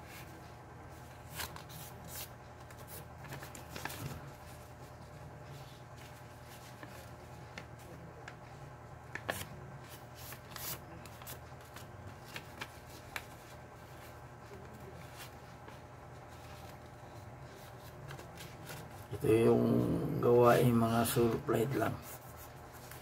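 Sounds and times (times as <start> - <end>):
paper sheets rustling: 0.0 - 19.1, 21.0 - 23.0
steady low hum: 0.0 - 23.0.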